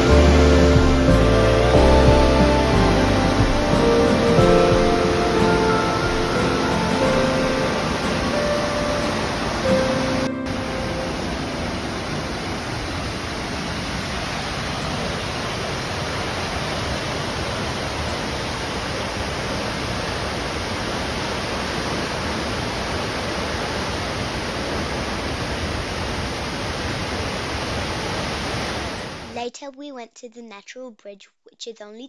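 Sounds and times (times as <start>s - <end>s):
waterfall rushing: 0.0s - 29.3s.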